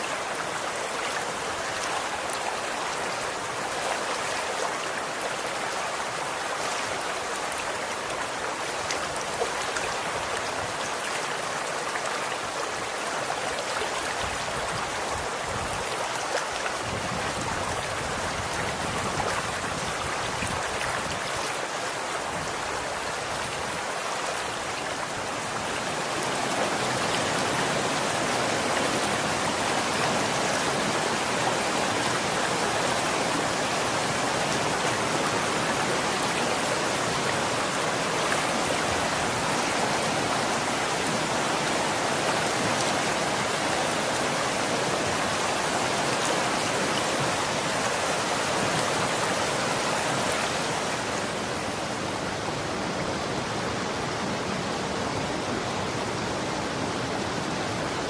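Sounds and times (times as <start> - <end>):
stream flowing and splashing: 0.0 - 58.0.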